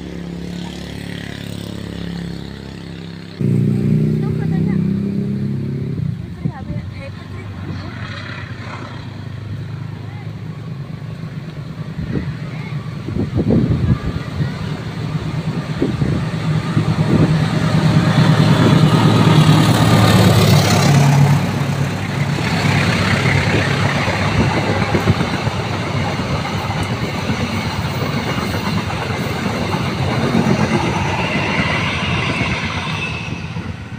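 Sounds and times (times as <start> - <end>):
locomotive engine hum: 0.0 - 33.9
train wheels rolling on rails: 6.0 - 33.9.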